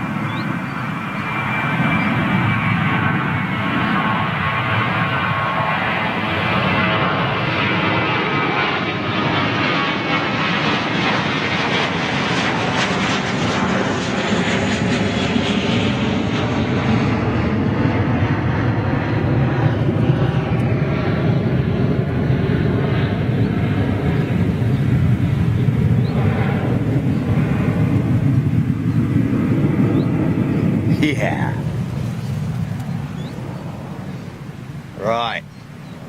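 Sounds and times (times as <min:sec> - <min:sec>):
airliner engines roaring: 0:00.0 - 0:36.0.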